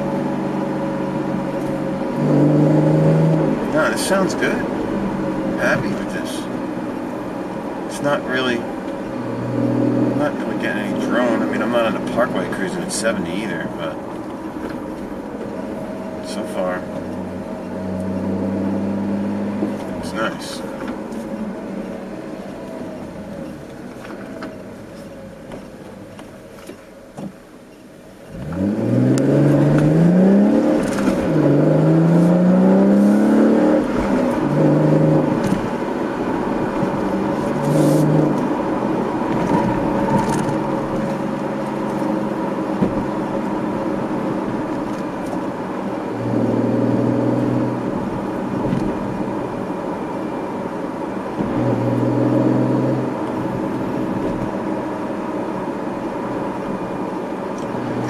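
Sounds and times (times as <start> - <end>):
car engine accelerating: 0.0 - 58.0
car exhaust: 0.0 - 58.0.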